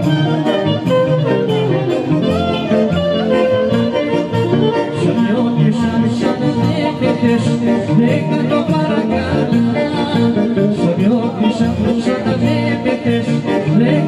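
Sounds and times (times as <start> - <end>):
folk dance music with singing: 0.0 - 14.0.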